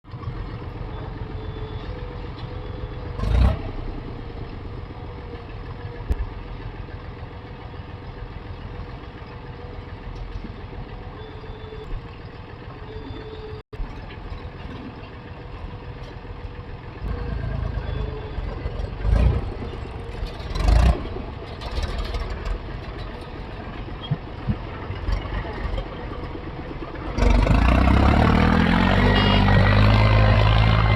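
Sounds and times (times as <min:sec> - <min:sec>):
heavy machinery diesel engines: 0:00.0 - 0:30.9.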